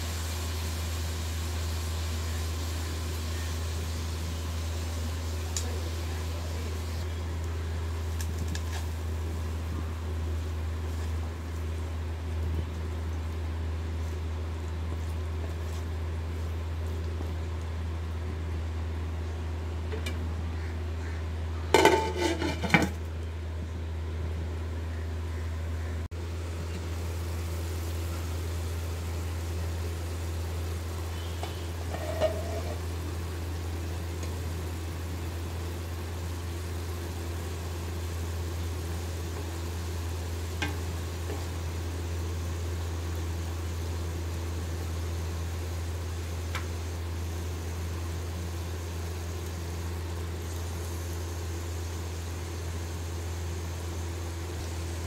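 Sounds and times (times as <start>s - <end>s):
faint sizzling in a pan: 0.0s - 23.2s, 24.9s - 55.0s
steady low hum: 0.0s - 55.0s.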